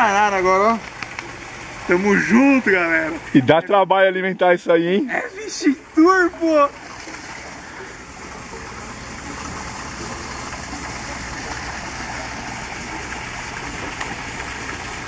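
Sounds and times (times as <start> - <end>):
water rushing and gushing: 0.0 - 15.0.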